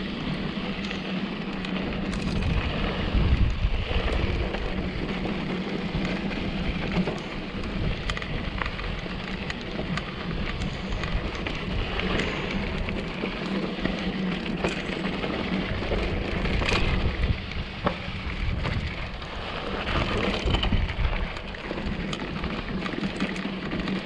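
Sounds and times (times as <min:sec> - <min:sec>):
wind buffeting microphone: 0:00.0 - 0:22.9
bike rattling and knocking: 0:00.0 - 0:24.0.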